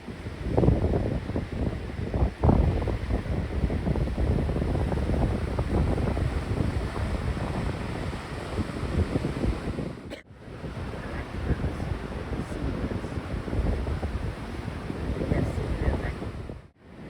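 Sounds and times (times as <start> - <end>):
sea waves washing on shore: 0.0 - 17.0
wind gusting on microphone: 0.0 - 17.0.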